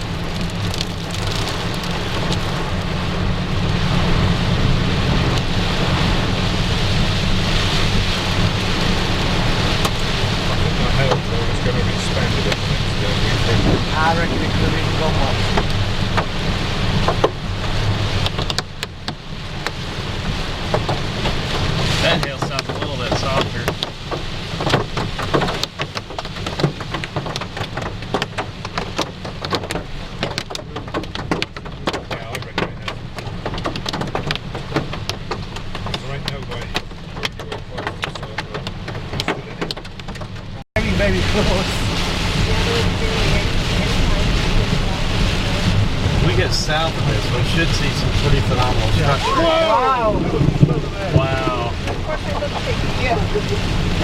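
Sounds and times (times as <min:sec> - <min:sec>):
low rumble of vehicle: 0:00.0 - 0:54.0
rain and hail on a car: 0:00.0 - 0:54.0.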